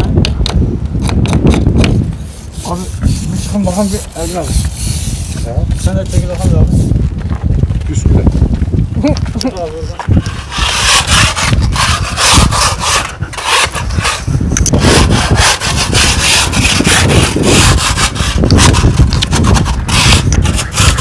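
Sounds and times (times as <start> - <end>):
hand scraping a surface: 1.1 - 7.4, 9.9 - 21.0.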